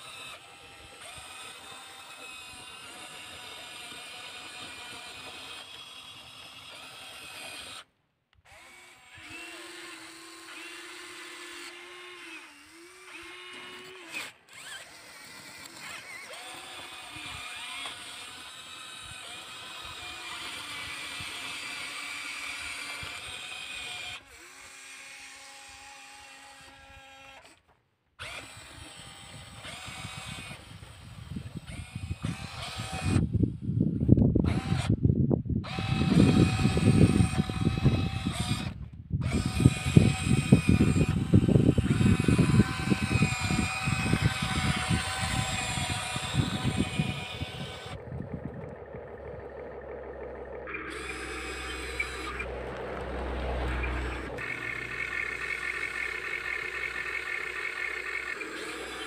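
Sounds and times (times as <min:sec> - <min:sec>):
excavator motors whining: 0:00.0 - 0:59.0.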